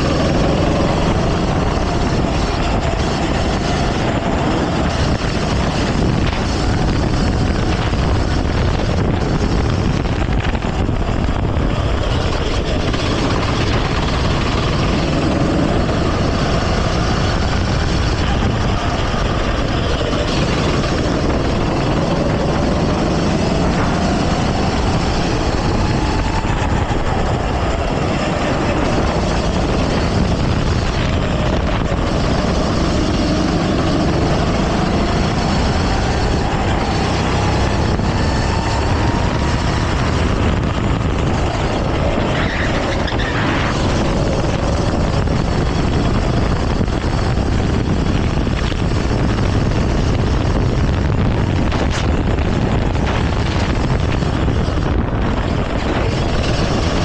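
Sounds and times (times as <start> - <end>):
go-kart engine running hard: 0.0 - 57.0
rush of noise: 0.0 - 57.0.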